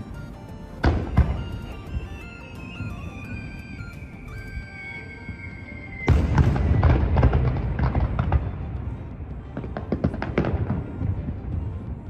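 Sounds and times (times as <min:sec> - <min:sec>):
fireworks bursting: 0:00.8 - 0:12.0.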